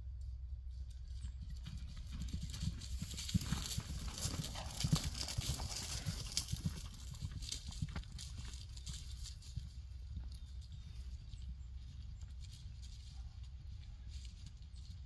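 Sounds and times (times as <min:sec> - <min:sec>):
horse hooves pounding on grass: 0:00.2 - 0:15.0.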